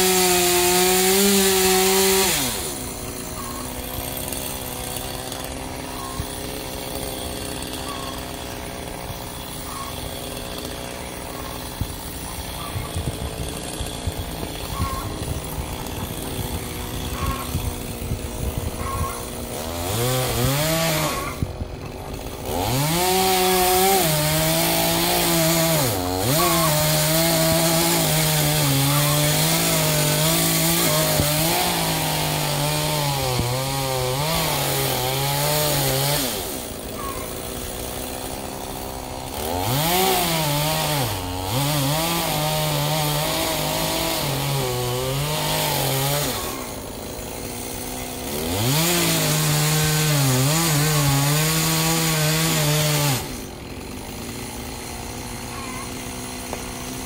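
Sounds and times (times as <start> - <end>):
chainsaw cutting tree trunk: 0.0 - 57.0.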